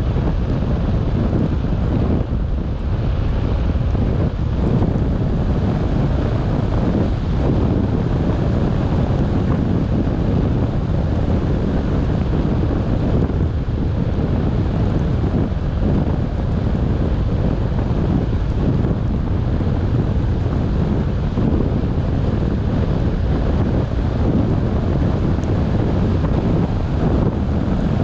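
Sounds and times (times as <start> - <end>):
car road noise on wet road: 0.0 - 28.0
wind rumbling on microphone: 0.0 - 28.0.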